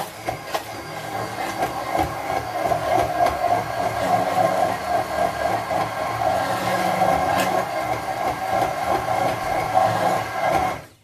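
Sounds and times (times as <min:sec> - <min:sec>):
immersion blender motor running: 0:00.0 - 0:11.0.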